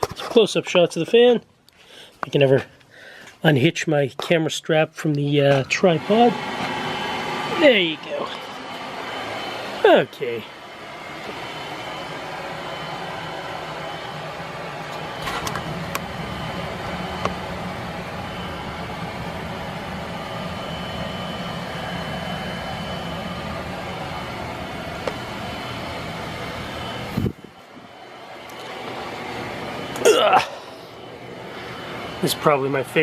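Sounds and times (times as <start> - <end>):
ceiling fan motor hum: 3.7 - 33.0.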